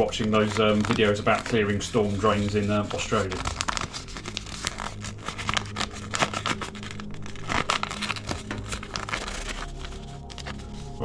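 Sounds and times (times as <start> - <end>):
sugar lumps scraping in bowl: 0.0 - 11.0.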